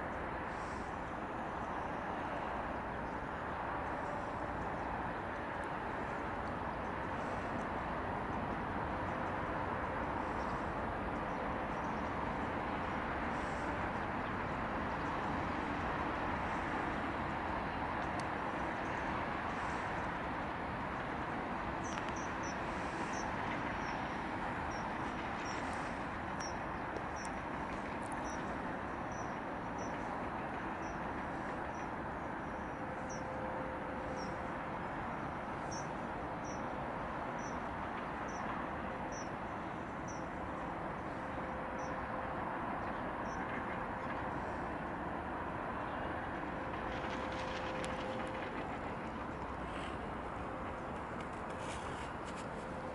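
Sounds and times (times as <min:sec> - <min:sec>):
steady rushing noise: 0:00.0 - 0:52.9.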